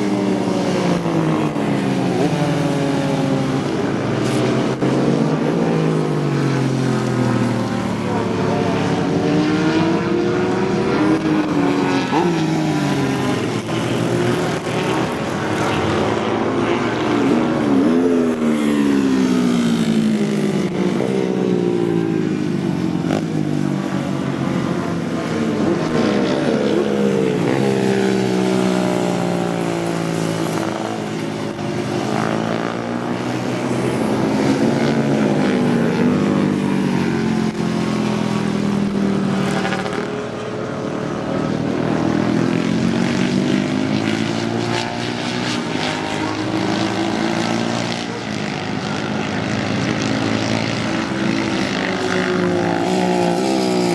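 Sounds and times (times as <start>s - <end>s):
racing motorcycle engines: 0.0s - 53.9s.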